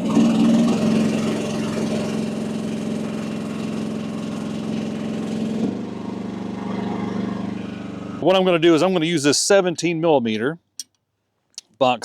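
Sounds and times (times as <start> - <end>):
excavator engine running: 0.0 - 10.3.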